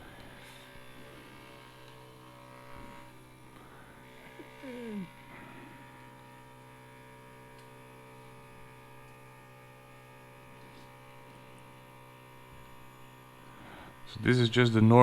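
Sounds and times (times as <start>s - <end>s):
printer motor humming: 0.0s - 15.0s.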